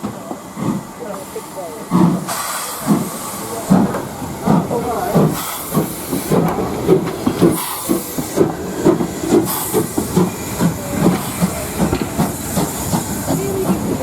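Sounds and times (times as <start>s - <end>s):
steam hissing: 0.0s - 14.0s
steam locomotive working: 0.0s - 14.0s.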